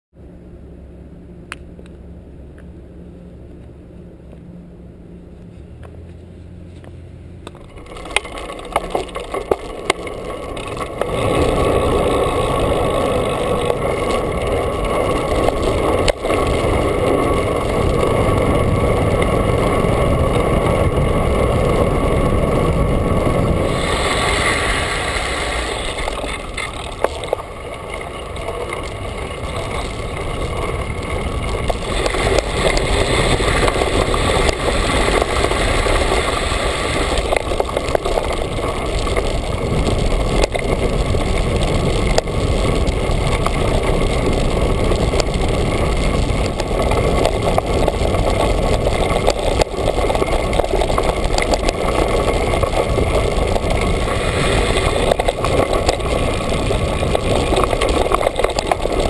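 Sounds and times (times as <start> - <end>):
bicycle tyre noise: 5.2 - 59.0
bike rattles: 5.5 - 59.0
wind on microphone: 10.3 - 59.0.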